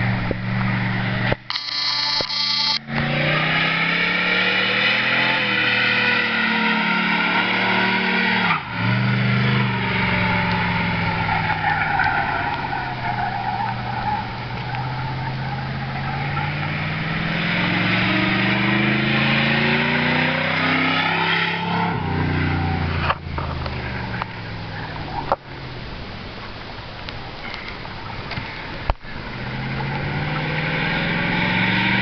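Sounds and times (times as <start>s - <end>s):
car engine accelerating: 0.0s - 26.1s, 27.4s - 32.0s.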